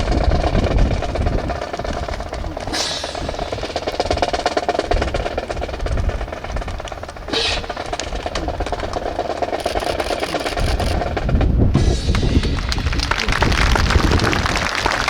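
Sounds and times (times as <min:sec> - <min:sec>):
marching drums: 0:00.0 - 0:14.2.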